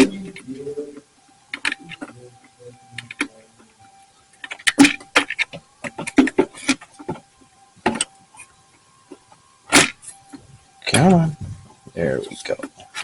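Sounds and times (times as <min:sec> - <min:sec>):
faint high-pitched tone: 0:00.0 - 0:13.0.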